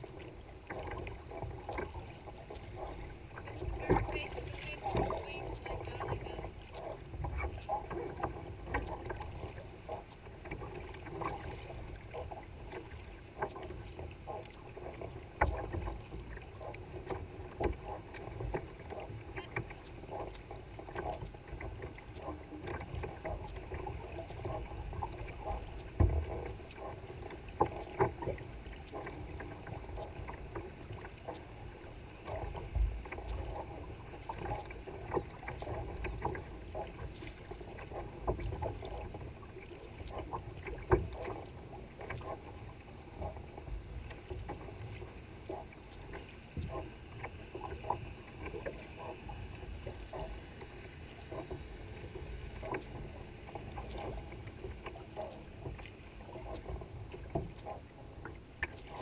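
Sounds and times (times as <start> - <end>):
paddle blades splashing: 0.0 - 59.0
water slapping against hull: 0.0 - 59.0.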